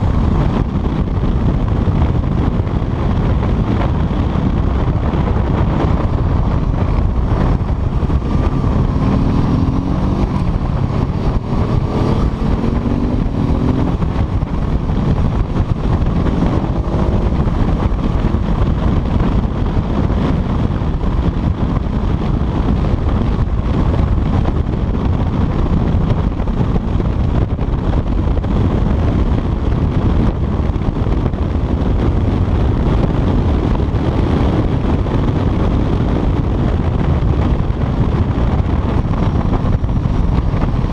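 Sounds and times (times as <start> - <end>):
heavy wind noise: 0.0 - 40.9
motorcycle engine accelerating: 0.0 - 40.9.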